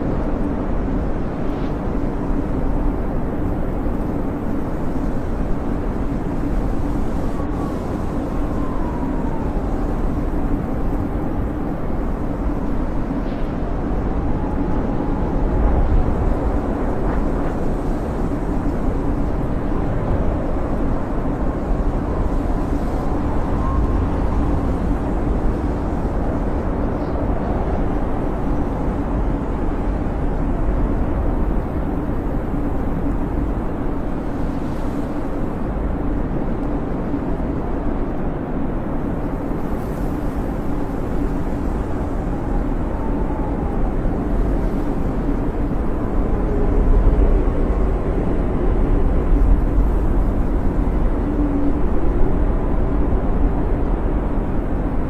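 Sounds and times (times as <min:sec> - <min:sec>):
snowstorm wind rushing and whistling: 0:00.0 - 0:55.0.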